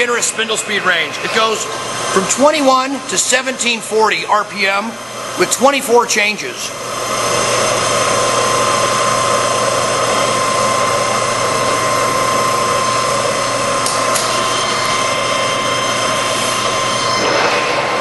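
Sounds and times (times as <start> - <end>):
lathe humming with high whine: 0.0 - 18.0.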